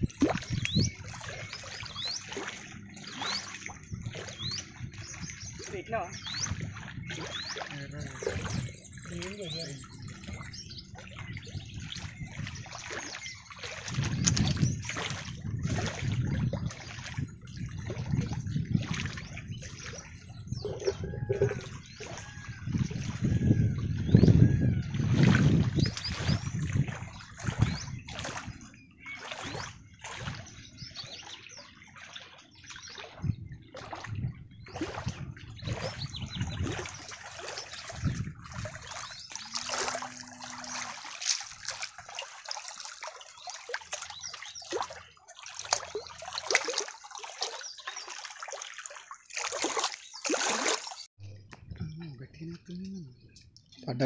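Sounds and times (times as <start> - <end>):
water splashing and trickling: 0.0 - 54.0.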